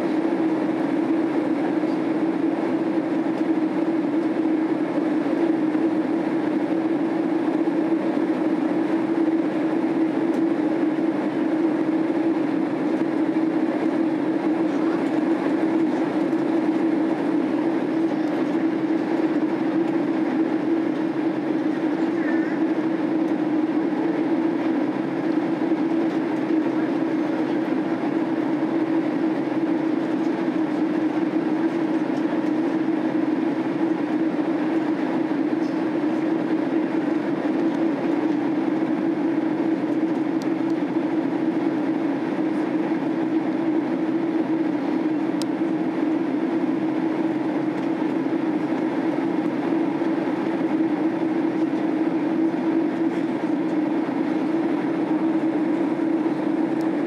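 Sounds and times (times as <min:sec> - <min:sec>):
constant low hum: 0:00.0 - 0:57.0
jet engine cabin drone: 0:00.0 - 0:57.0.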